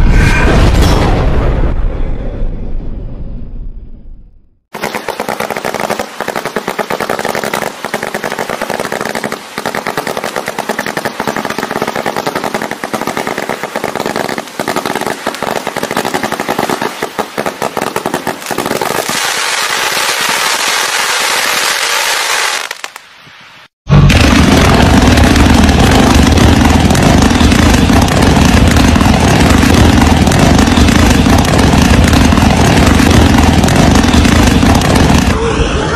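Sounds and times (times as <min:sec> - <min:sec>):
fireworks cake firing shots: 0:04.7 - 0:23.0, 0:23.9 - 0:35.4
crackling firework trails: 0:04.7 - 0:35.9.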